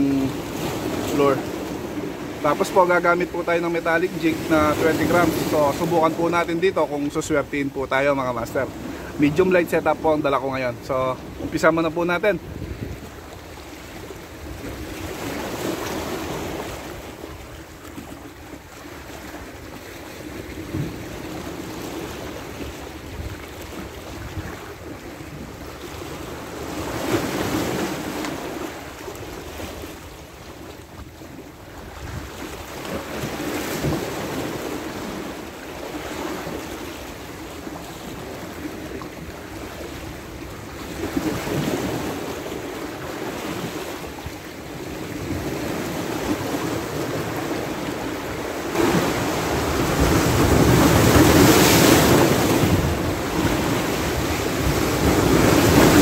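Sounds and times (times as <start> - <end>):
sea waves breaking on rocks: 0.0 - 56.0.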